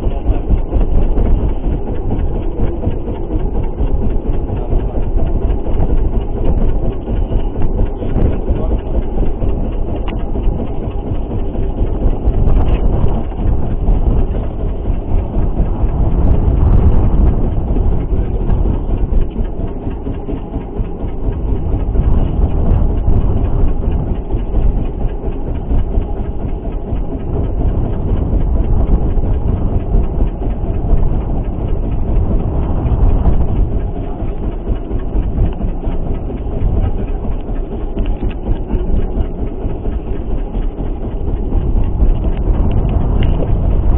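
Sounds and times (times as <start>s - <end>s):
boat engine: 0.0s - 43.9s
waves: 0.0s - 43.9s
wind: 0.0s - 43.9s.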